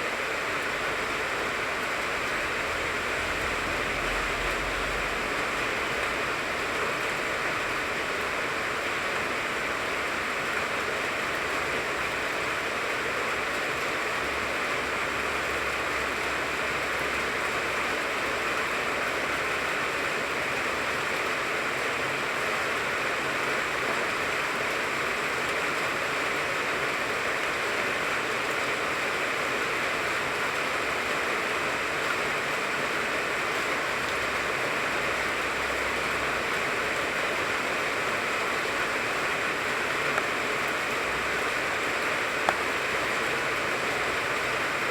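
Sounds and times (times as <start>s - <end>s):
rain falling on leaves: 0.0s - 44.9s.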